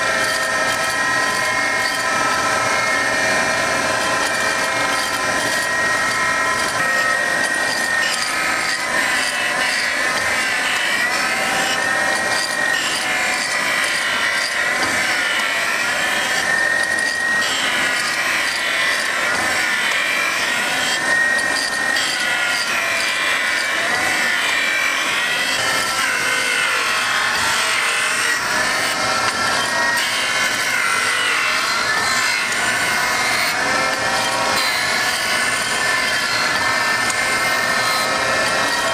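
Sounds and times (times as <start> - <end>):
grinder wheel grinding metal: 0.0 - 38.9.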